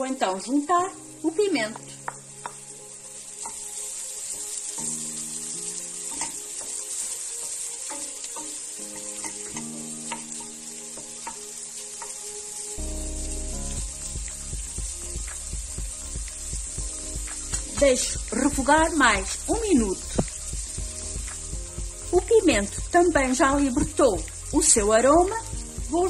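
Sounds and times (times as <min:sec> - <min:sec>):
vegetables sizzling in a pot: 0:00.0 - 0:26.0.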